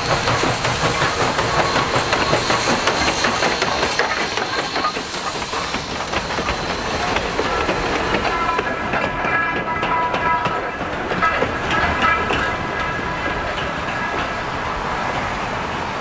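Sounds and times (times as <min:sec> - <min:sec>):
train wheels clattering over rail joints: 0:00.0 - 0:15.4
steam hissing: 0:00.0 - 0:16.0.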